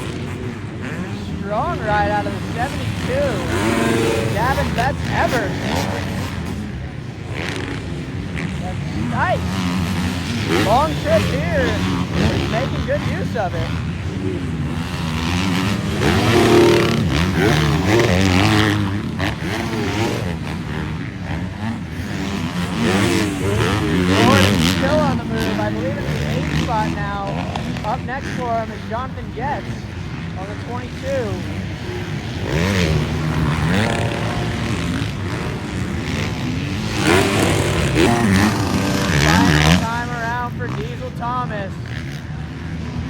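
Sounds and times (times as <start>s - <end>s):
motocross bike engines revving: 0.0s - 43.0s.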